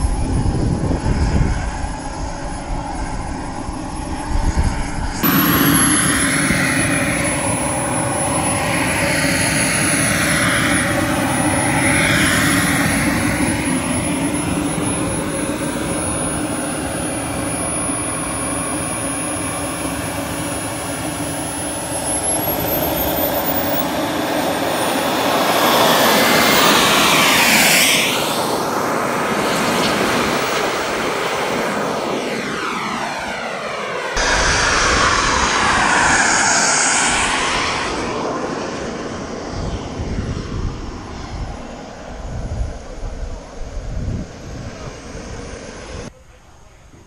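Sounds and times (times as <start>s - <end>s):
model jet turbine whining: 0.0s - 46.1s
jet passing by: 0.0s - 46.8s.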